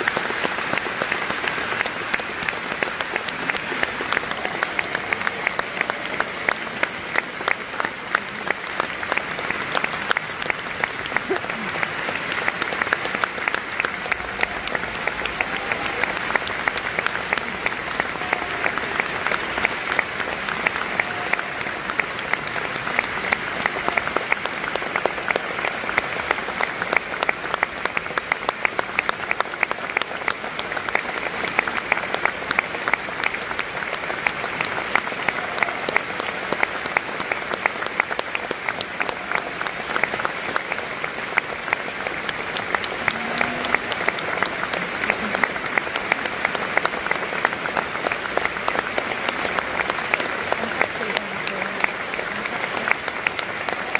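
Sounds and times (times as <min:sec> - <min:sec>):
audience applauding: 0:00.0 - 0:53.9.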